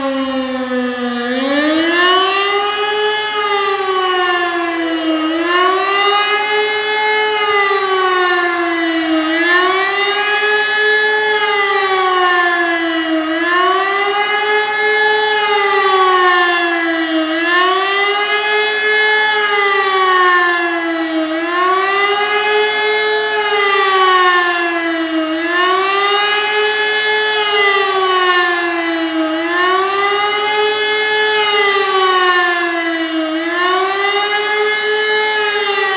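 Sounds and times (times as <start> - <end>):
motor siren wailing: 0.0 - 35.9.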